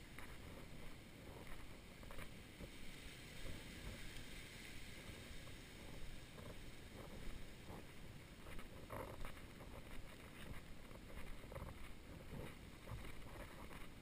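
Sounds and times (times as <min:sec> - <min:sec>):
footsteps on a sandy path: 0:00.0 - 0:14.0
wind rumbling on microphone: 0:00.0 - 0:14.0.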